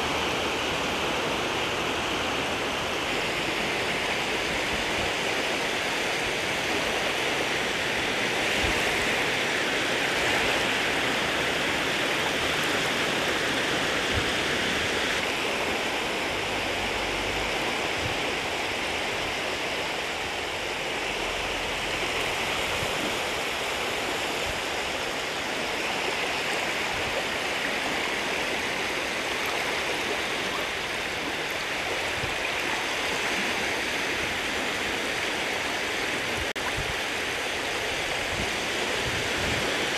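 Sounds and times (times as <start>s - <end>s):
shallow seawater washing ashore: 0.0s - 39.9s.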